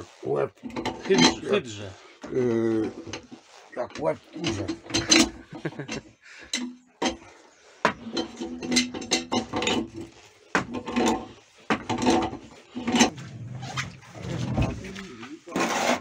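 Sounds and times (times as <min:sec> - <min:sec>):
pipe wrench clicking and scraping: 0:00.0 - 0:13.2.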